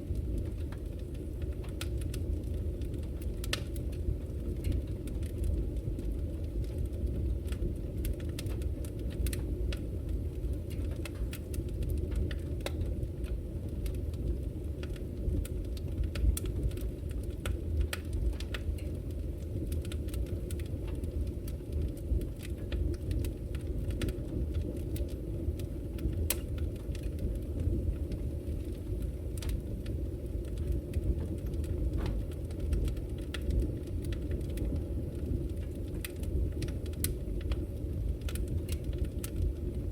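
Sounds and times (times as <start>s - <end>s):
fire crackling and popping: 0.0s - 39.9s
low fire rumble: 0.0s - 39.9s.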